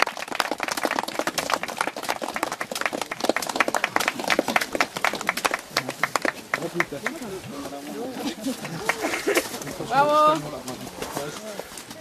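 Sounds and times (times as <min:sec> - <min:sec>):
crowd applauding: 0:00.0 - 0:10.3.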